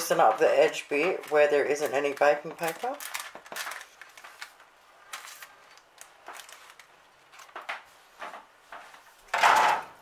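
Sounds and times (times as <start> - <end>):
baking paper rustling: 0.0 - 10.0.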